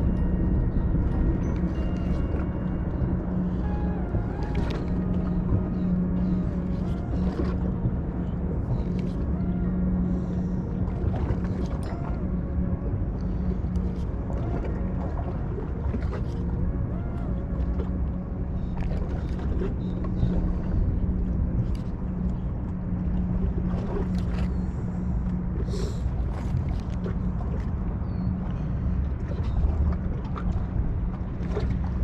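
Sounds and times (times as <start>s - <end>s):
motorboat engine drone: 0.0s - 32.0s
wind on microphone: 0.0s - 32.0s.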